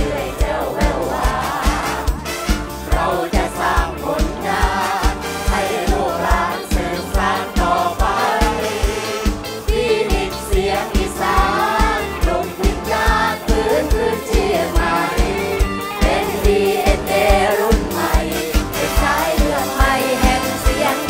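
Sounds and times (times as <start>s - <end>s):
live band music: 0.0s - 21.0s
people singing into microphones: 0.0s - 21.0s
steady drum beat: 0.0s - 21.0s.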